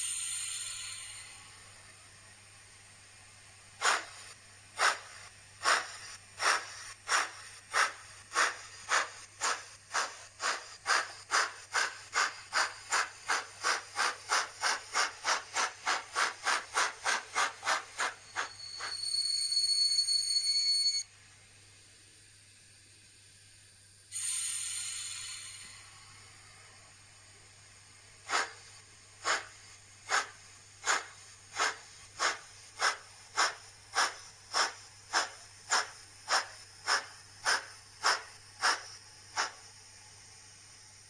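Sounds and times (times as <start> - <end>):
high-pitched steam hiss: 0.0 - 1.9, 3.8 - 21.0, 24.1 - 26.9, 28.2 - 41.0
steam chuffs from small speaker: 0.0 - 2.0, 3.8 - 21.1, 24.1 - 27.2, 28.0 - 41.0.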